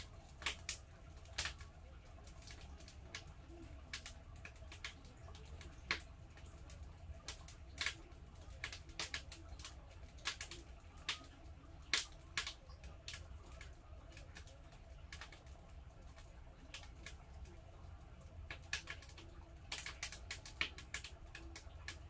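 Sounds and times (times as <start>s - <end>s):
firewood crackling and popping: 0.0s - 22.0s
low steady hum: 0.0s - 22.0s.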